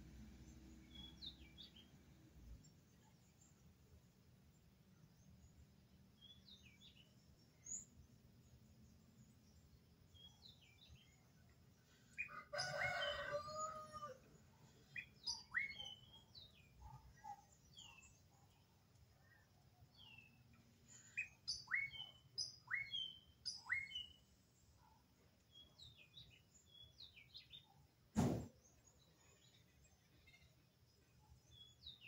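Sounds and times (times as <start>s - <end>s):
birds chirping: 0.4s - 32.0s.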